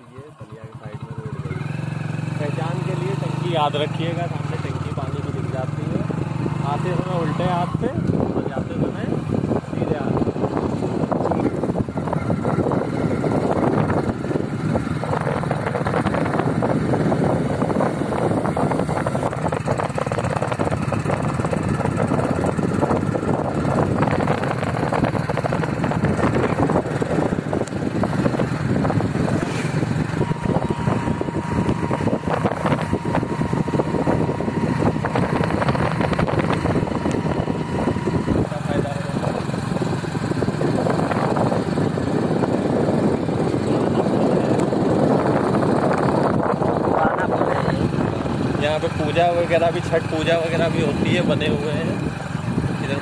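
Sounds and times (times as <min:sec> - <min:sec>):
vehicle engine running: 0:00.0 - 0:53.0
wind buffeting microphone: 0:03.9 - 0:53.0.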